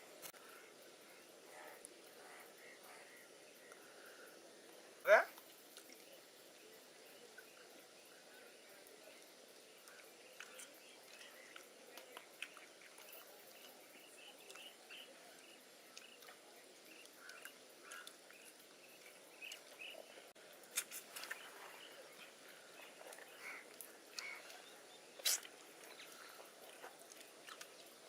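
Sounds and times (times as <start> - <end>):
faint outdoor ambience: 0.0 - 28.0.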